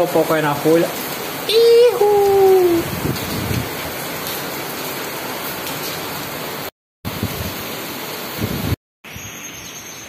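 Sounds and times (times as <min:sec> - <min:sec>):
heavy rain pouring: 0:00.0 - 0:08.8.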